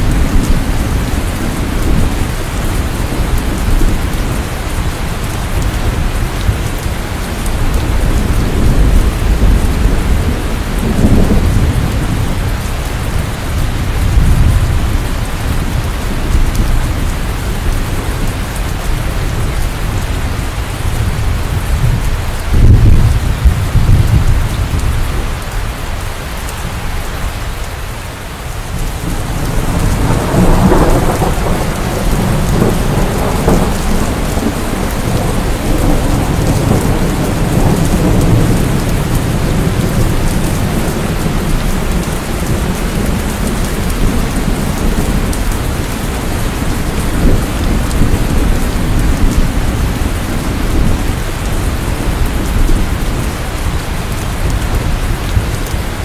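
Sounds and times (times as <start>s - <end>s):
rolling thunder: 0.0s - 25.6s, 28.6s - 56.0s
heavy rain: 0.0s - 56.0s.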